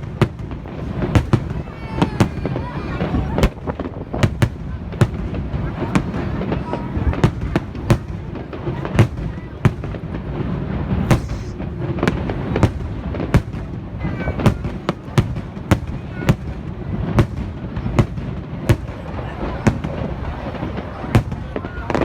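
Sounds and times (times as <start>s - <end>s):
firework bangs: 0.0s - 22.0s.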